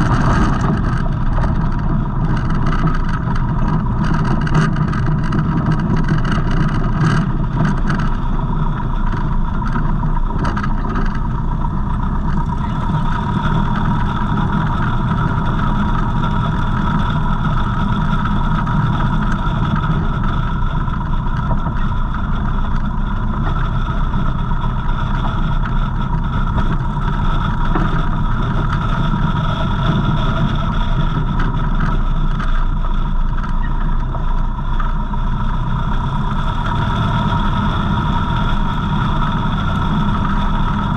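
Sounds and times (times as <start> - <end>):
small plane engine and propeller: 0.0 - 40.9.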